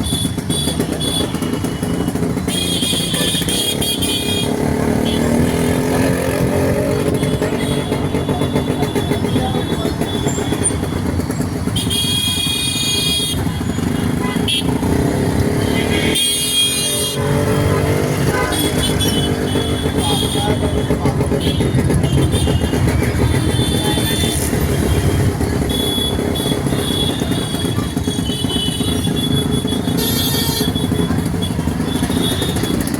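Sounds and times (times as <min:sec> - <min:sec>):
motorcycle engine running: 0:00.0 - 0:32.9
vehicle horns honking: 0:00.0 - 0:32.9.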